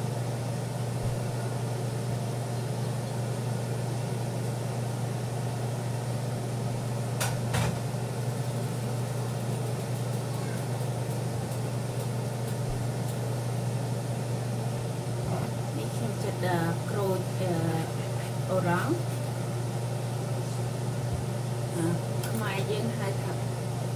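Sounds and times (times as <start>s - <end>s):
appliance fan humming: 0.0s - 23.9s.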